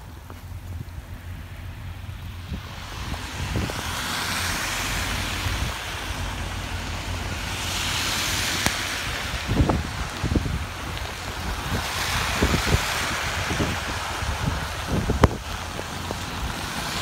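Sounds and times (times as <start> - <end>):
low engine rumble: 0.0 - 17.0
rushing hiss of passing vehicle: 0.0 - 17.0.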